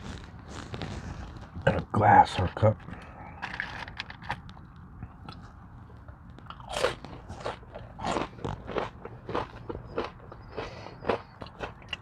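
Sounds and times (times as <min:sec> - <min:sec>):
person chewing crunchy food: 0:00.0 - 0:01.6, 0:03.4 - 0:12.0.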